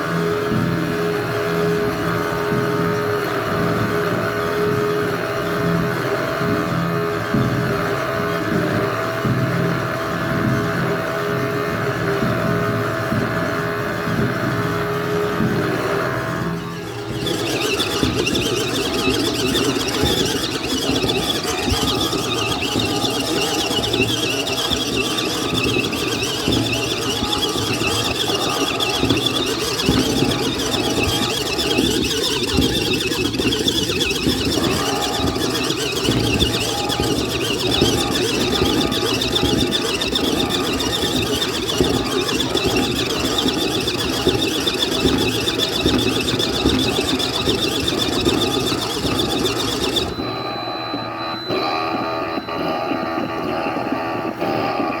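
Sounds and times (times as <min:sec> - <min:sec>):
high wavering whine: 0:00.0 - 0:55.0
washing machine motor humming: 0:00.0 - 0:55.0.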